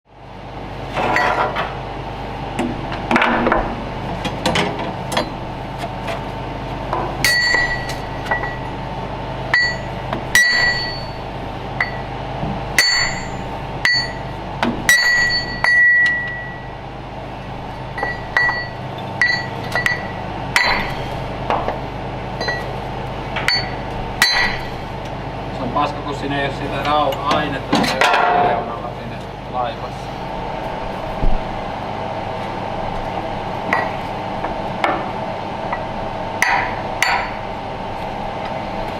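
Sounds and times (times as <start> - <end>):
steady low hum: 0.1 - 38.9.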